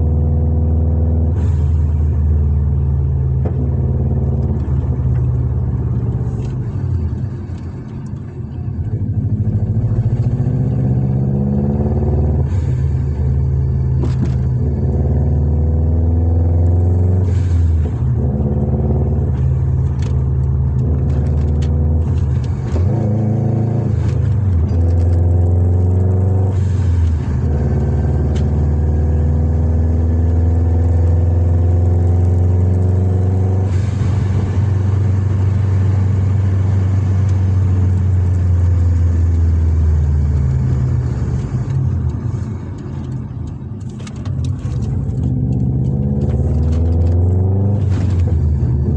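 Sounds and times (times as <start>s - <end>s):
car engine revving while driving: 0.0s - 48.9s.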